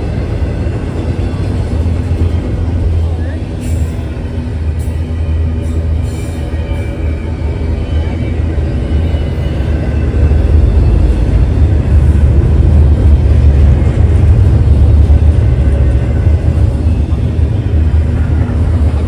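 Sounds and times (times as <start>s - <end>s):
diesel locomotive rumbling: 0.0s - 19.0s.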